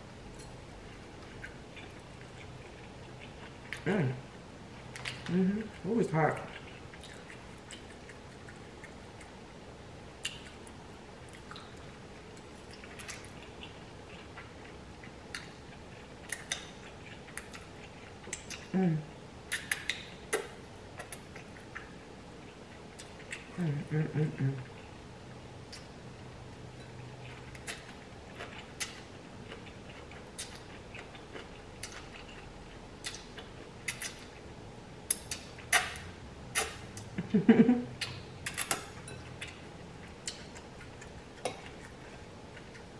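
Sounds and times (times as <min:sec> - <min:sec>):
wet chewing and mouth sounds: 0:00.8 - 0:03.9, 0:04.8 - 0:09.5, 0:10.2 - 0:18.8, 0:19.5 - 0:23.7, 0:25.6 - 0:26.0, 0:26.7 - 0:37.2, 0:38.0 - 0:42.9.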